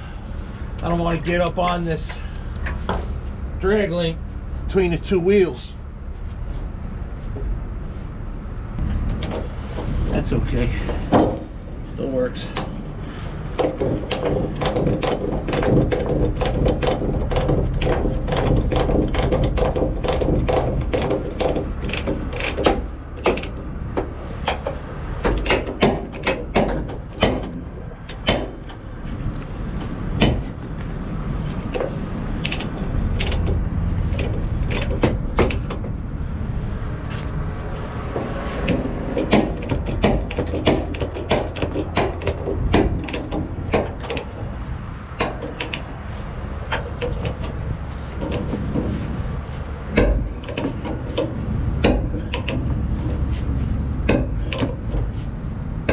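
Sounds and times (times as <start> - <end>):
steady low rumble: 0.0 - 55.9.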